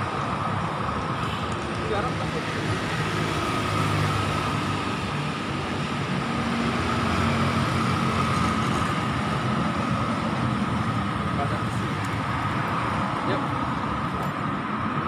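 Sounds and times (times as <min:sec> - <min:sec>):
motorcycles and cars driving past: 0:01.5 - 0:15.0.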